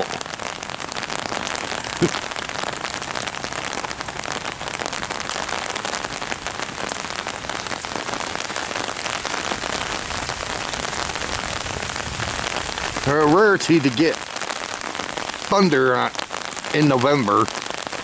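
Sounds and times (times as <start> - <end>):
rain falling on an umbrella: 0.0 - 18.0.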